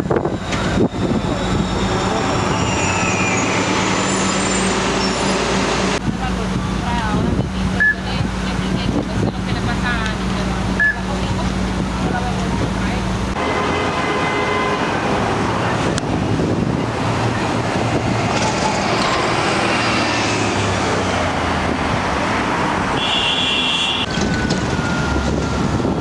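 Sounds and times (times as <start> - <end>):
bus engines pulling away: 0.0 - 26.0
busy street traffic: 0.0 - 26.0.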